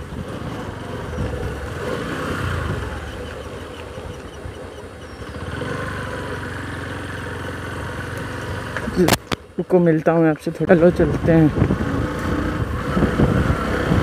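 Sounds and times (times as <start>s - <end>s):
motorcycle engine running: 0.0s - 9.6s, 10.7s - 14.0s.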